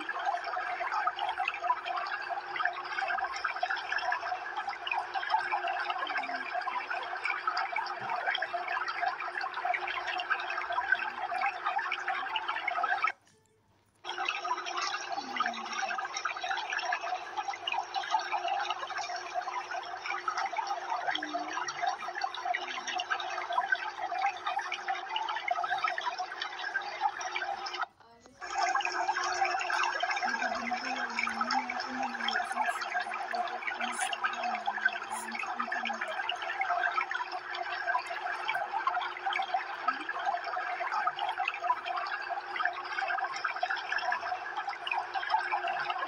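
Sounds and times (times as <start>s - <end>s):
aquarium water bubbling: 0.0s - 46.0s.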